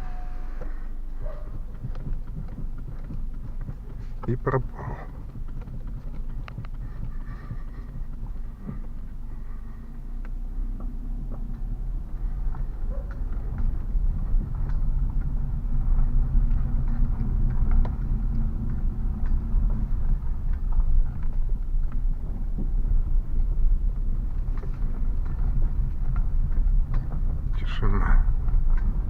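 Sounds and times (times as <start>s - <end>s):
tyre and engine rumble: 0.0s - 29.0s
suspension knocks and clicks: 0.6s - 29.0s.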